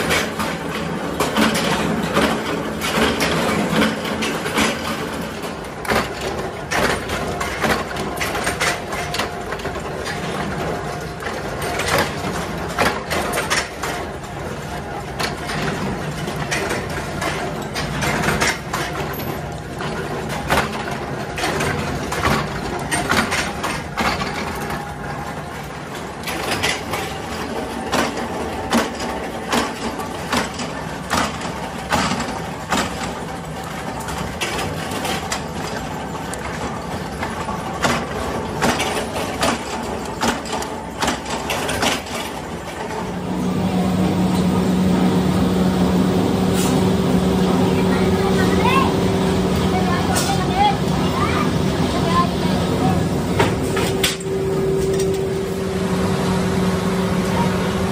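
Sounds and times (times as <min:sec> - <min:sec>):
workshop machinery hum: 0:00.0 - 0:57.9.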